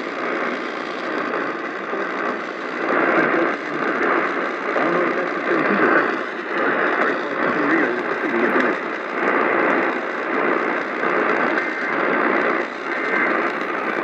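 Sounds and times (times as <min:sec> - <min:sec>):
radio static hiss and crackle: 0:00.0 - 0:14.0.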